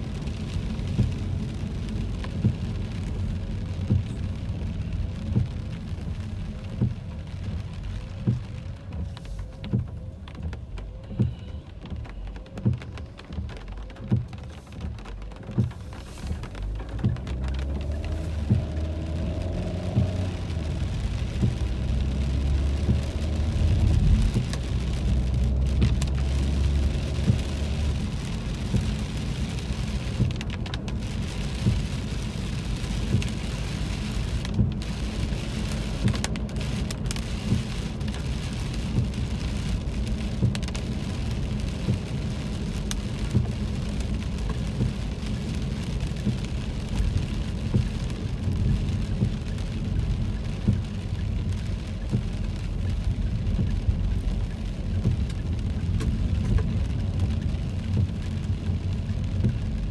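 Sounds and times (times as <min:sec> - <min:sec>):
car driving on wet road: 0:00.0 - 0:59.9
rain on car roof: 0:00.0 - 0:59.9.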